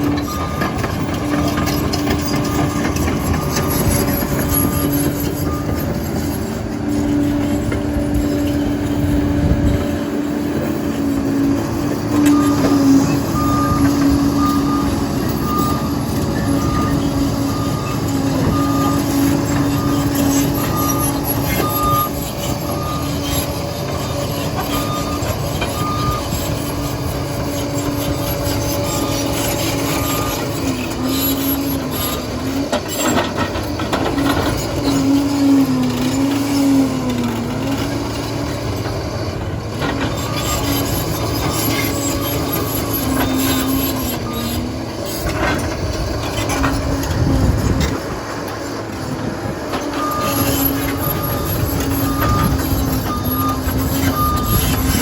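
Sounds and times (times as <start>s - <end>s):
reversing alarm beeping: 0.0s - 9.8s, 11.5s - 47.2s, 49.0s - 55.0s
bulldozer diesel engine under load: 0.0s - 55.0s.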